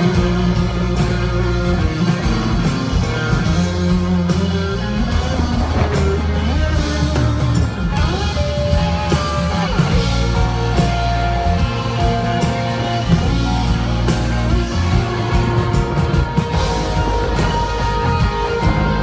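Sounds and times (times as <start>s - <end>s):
bass guitar: 0.0s - 19.0s
electric guitar notes bending: 0.0s - 19.0s
steady drum beat: 0.0s - 19.0s.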